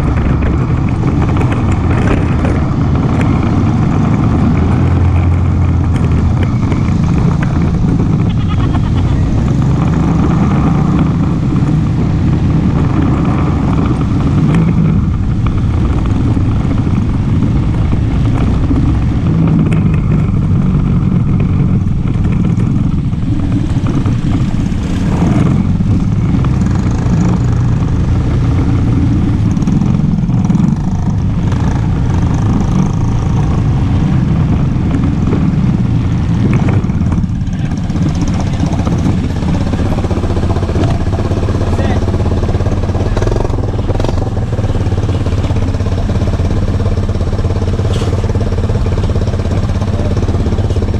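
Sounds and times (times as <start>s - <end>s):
atv engine drone and rattle: 0.0s - 50.9s.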